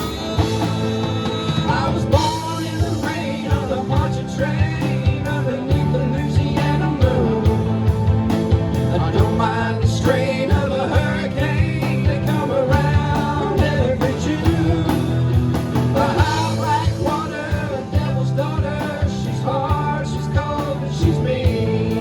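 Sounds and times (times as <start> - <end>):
bending lead melody: 0.0 - 22.0
live band playing: 0.0 - 22.0.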